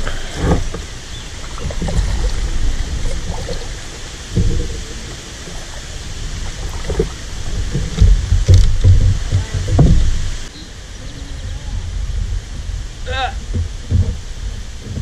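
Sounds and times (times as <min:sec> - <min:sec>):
paddle splashes and thumps: 0:00.0 - 0:10.5, 0:13.4 - 0:15.0
rumble of moving water: 0:00.0 - 0:15.0.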